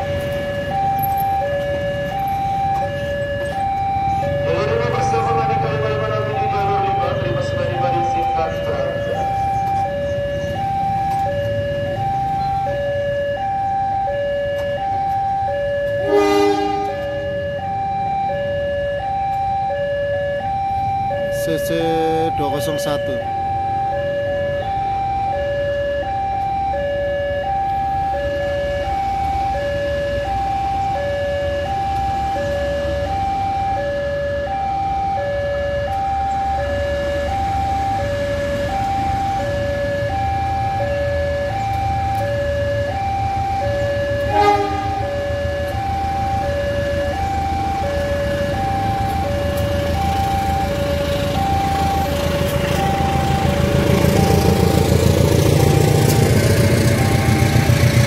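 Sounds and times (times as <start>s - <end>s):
diesel locomotive engine rumbling: 0.0s - 58.0s
two-tone electronic warning alarm: 0.0s - 58.0s.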